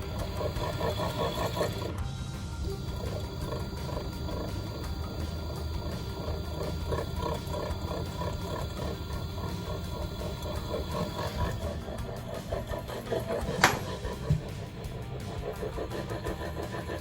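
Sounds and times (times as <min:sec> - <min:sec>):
washing machine motor groaning: 0:00.0 - 0:17.0.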